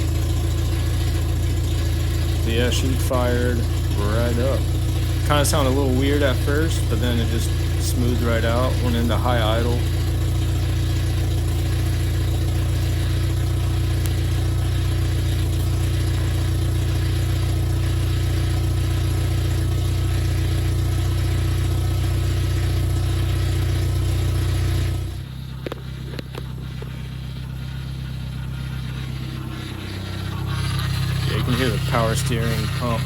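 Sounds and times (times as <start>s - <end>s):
car engine high idling: 0.0s - 33.0s.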